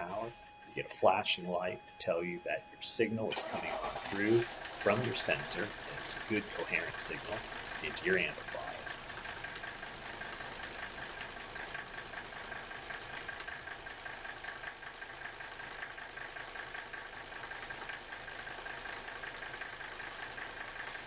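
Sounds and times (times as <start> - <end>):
diesel engine idling: 3.1 - 21.0.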